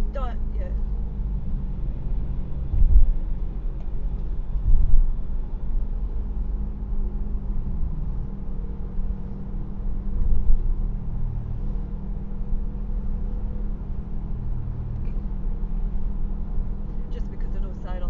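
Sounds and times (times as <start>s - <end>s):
car engine rumble: 0.0s - 18.0s
tyres on road: 0.0s - 18.0s.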